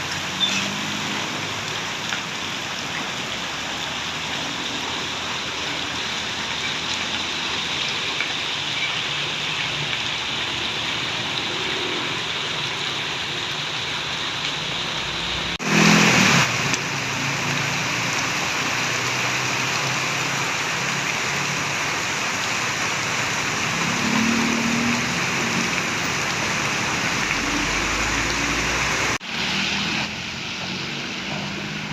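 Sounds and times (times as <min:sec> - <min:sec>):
heavy rain: 0:00.0 - 0:31.9.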